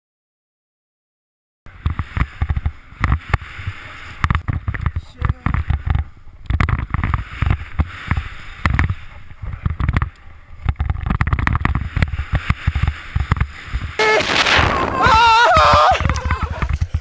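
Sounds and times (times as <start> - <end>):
skis scraping on snow: 1.7 - 17.0
wind buffeting microphone: 1.7 - 17.0.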